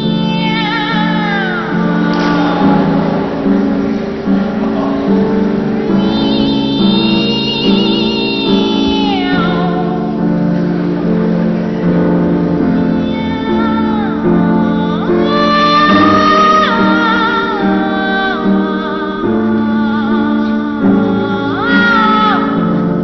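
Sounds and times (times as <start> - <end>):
boys' choir singing: 0.0 - 23.0
piano accompaniment: 0.0 - 23.0.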